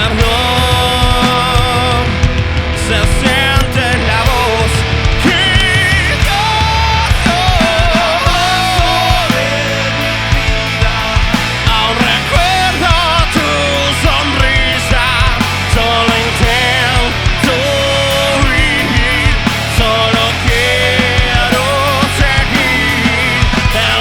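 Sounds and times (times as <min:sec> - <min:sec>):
bass: 0:00.0 - 0:24.0
drums: 0:00.0 - 0:24.0.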